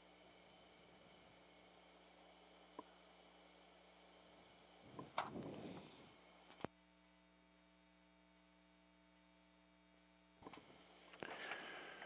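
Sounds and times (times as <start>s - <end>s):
faint mains hum: 0.0s - 12.0s
soft hiss: 0.0s - 12.0s.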